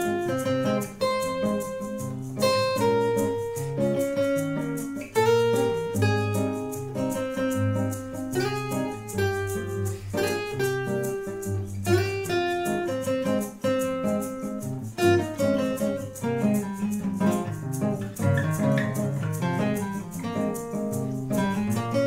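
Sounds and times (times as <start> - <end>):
fingerstyle acoustic guitar: 0.0 - 22.0.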